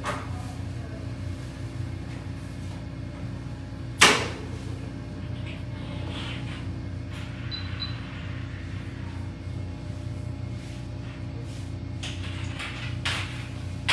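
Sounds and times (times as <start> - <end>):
electrical hum: 0.0 - 13.9.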